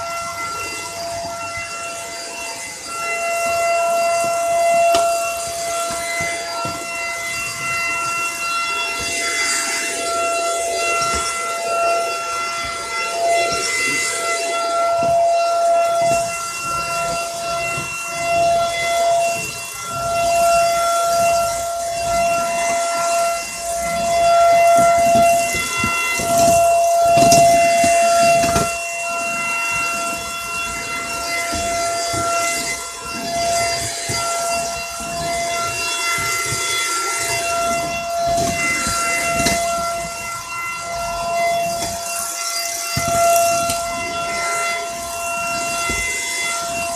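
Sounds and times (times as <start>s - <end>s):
stick vacuum running: 0.0s - 46.9s.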